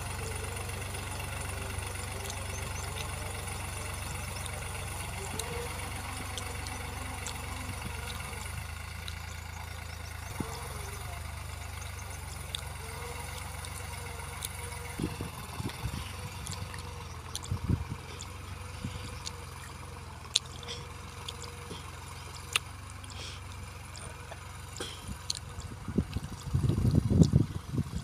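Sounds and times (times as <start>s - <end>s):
distant tractor engine running: 0.0s - 28.0s
low rumbles: 0.0s - 28.0s.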